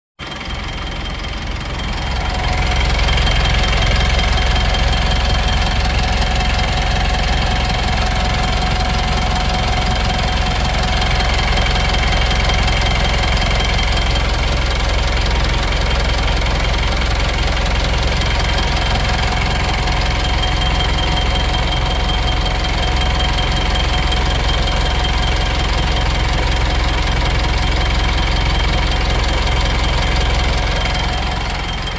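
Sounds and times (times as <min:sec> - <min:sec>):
diesel engine running: 0:00.2 - 0:31.9.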